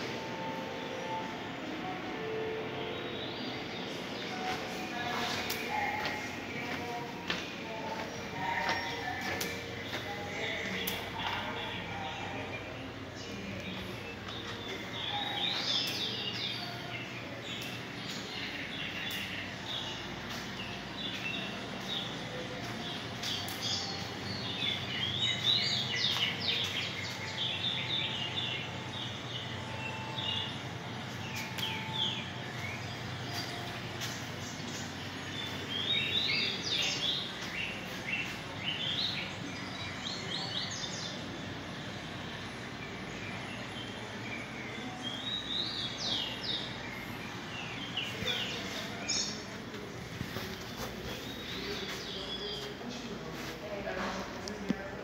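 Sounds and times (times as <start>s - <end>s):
birds twittering: 0.0s - 55.0s
steady low hum: 0.0s - 55.0s.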